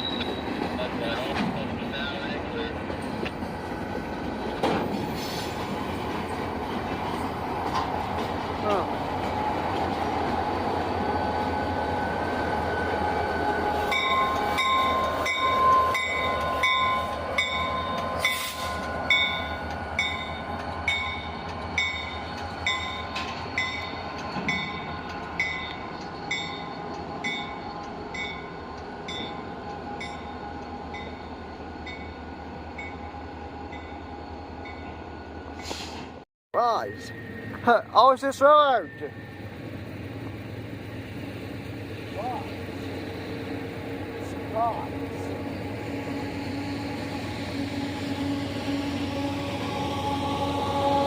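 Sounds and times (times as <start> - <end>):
train rolling past: 0.0 - 51.0.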